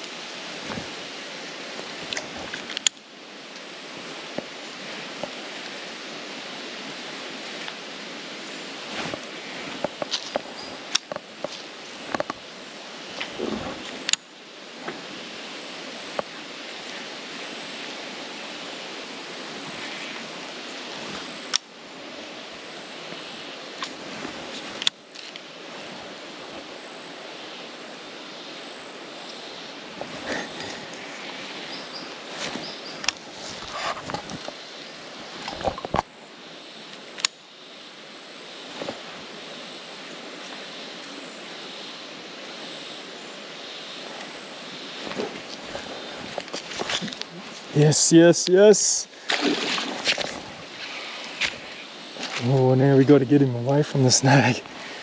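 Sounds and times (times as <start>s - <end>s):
steady outdoor hiss: 0.0s - 55.0s.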